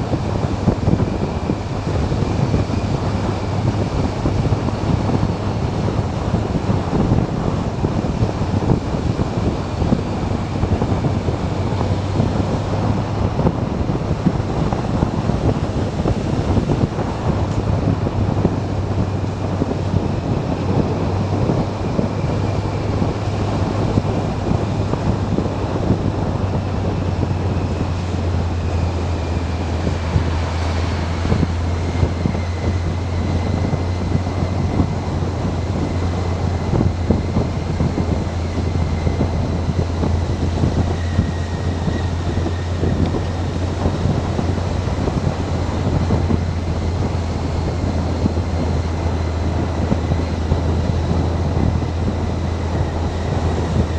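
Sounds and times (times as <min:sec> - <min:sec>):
motorcycle engine drone: 0:00.0 - 0:53.9
wind noise on microphone: 0:00.0 - 0:53.9.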